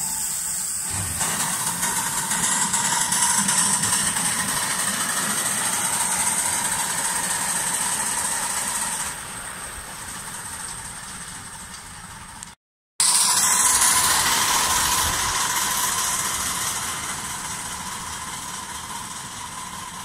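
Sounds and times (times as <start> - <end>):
steam locomotive running on track: 0.0 - 20.0.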